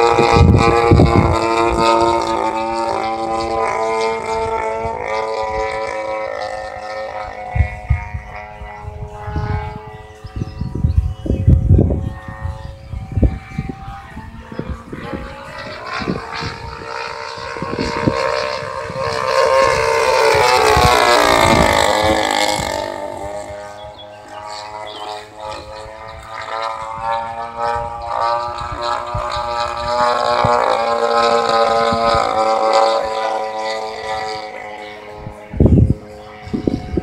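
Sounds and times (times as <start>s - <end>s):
model plane motor and propeller: 0.0s - 37.0s.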